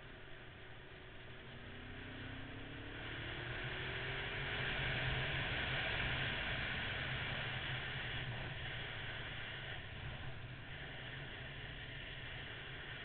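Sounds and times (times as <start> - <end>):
motorcycle engine accelerating: 1.0 - 13.0.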